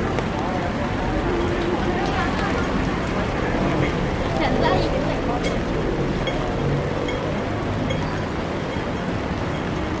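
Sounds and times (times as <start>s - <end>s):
traffic rumble: 0.0s - 10.0s
voices of passers-by: 0.0s - 10.0s.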